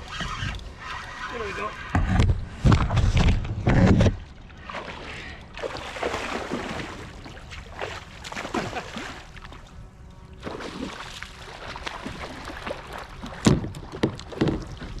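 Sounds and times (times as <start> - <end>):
water splashing around kayak: 0.0 - 15.0.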